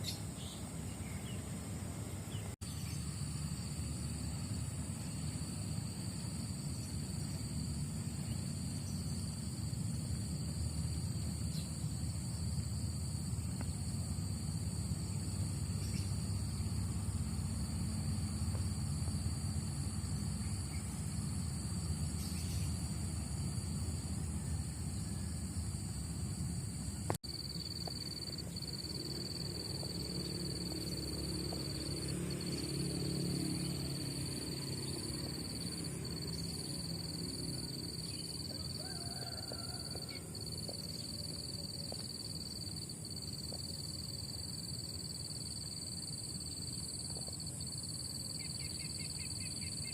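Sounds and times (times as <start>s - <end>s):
high-pitched insect drone: 2.3s - 49.9s.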